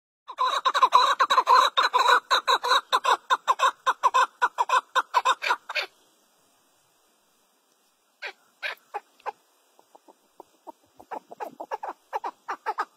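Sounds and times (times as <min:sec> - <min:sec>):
partridge calling: 0:00.3 - 0:06.0, 0:08.2 - 0:12.9.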